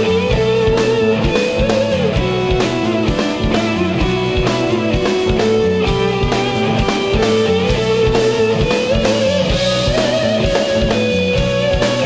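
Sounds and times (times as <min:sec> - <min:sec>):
drum kit beat: 0:00.0 - 0:12.0
electric guitar lead melody: 0:00.0 - 0:12.0.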